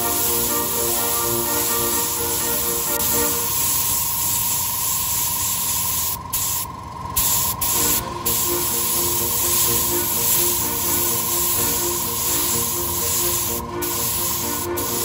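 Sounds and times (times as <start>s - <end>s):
airbrush spraying hiss: 0.0s - 15.0s
spray booth noise: 0.0s - 15.0s.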